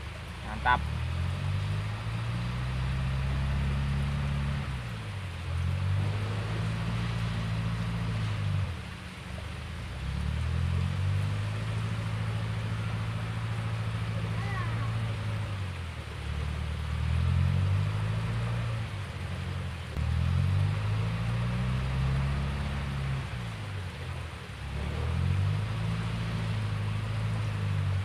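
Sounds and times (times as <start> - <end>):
low engine drone: 0.0 - 28.0.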